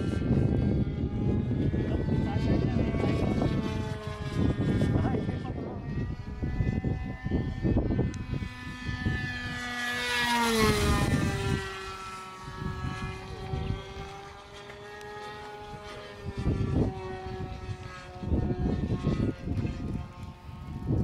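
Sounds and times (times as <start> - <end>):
model plane engine buzzing: 0.0 - 21.0
wind rumbling on microphone: 0.0 - 21.0.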